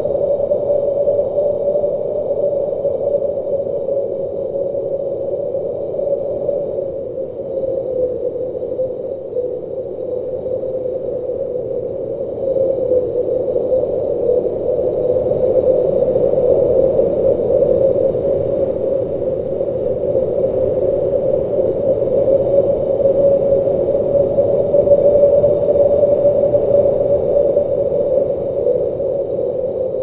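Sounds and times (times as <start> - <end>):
blizzard wind blowing: 0.0 - 30.0.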